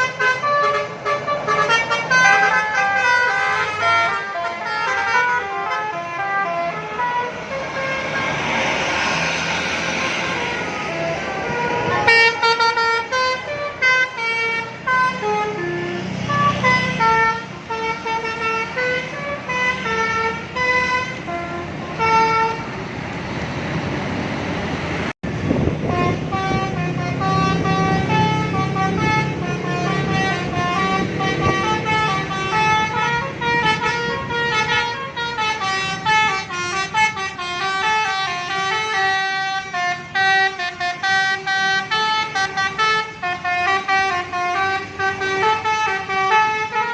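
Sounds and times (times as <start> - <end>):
musical air horn melody: 0.0 - 8.4, 10.2 - 22.7, 25.8 - 46.9
bus engine humming: 0.0 - 46.9.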